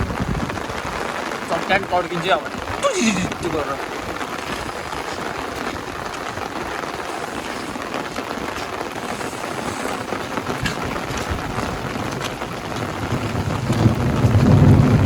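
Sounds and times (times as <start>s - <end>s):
rain falling steadily: 0.0s - 15.0s
sharp raindrop hits: 0.0s - 15.0s.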